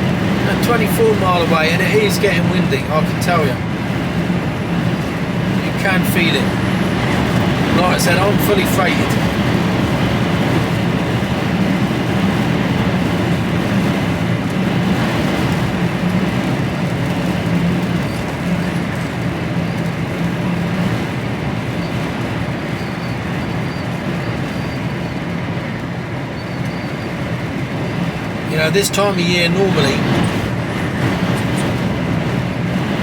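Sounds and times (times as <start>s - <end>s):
lorry diesel engine droning: 0.0s - 33.0s.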